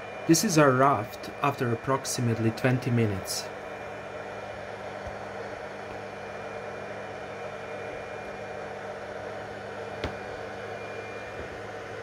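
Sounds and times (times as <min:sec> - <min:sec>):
printer cooling fans whirring: 0:00.0 - 0:12.0.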